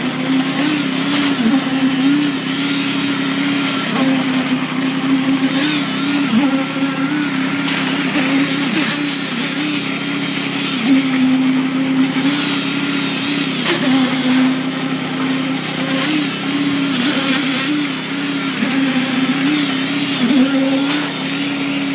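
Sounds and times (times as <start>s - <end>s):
machinery engine running: 0.0s - 21.9s.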